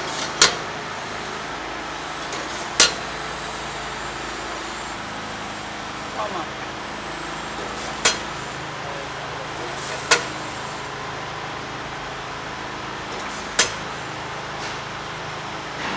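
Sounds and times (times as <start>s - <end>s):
filling machine humming: 0.0s - 15.9s.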